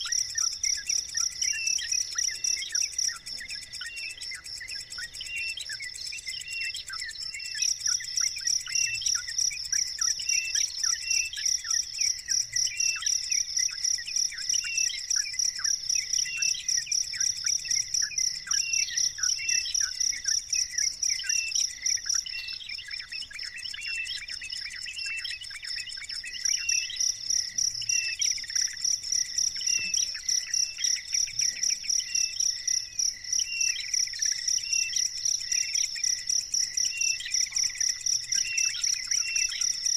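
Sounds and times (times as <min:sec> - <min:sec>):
cricket chirping trill: 0:00.0 - 0:39.9.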